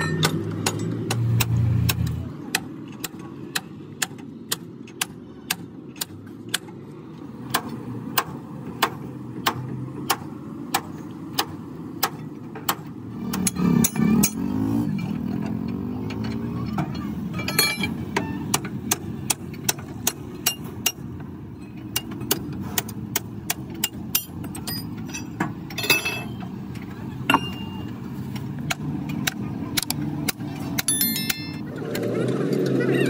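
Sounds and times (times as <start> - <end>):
metal hammer and pry-bar strikes: 0.0 - 6.6, 7.5 - 14.6, 16.1 - 26.5, 27.2 - 31.6
low rumble of engines: 0.0 - 33.0.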